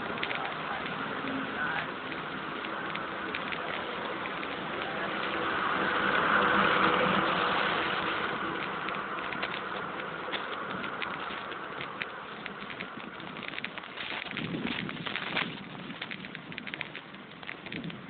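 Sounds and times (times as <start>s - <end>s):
motor vehicle passing: 0.0s - 17.0s
wind and road noise: 0.0s - 18.0s.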